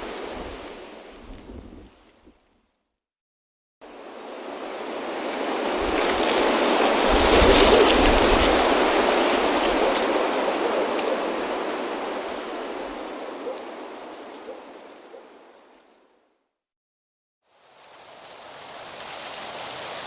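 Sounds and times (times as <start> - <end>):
wind blowing dry leaves: 0.0 - 2.7, 3.8 - 16.1, 17.5 - 20.0.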